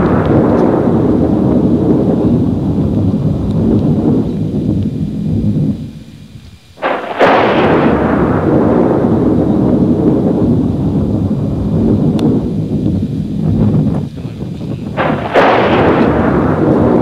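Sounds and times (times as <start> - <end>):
thunder crack and rolling rumble: 0.0 - 17.0.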